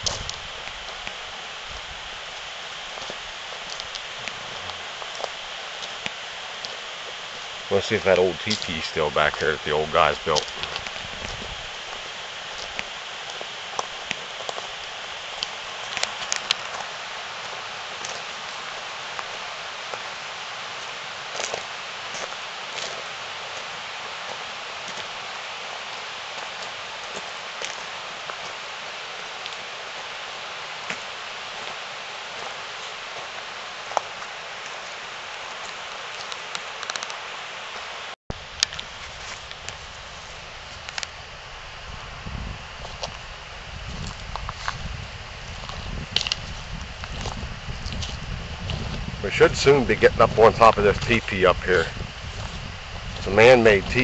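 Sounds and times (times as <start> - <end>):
footsteps crunching on gravel: 0.0 - 54.0
steady rushing hiss: 0.0 - 54.0.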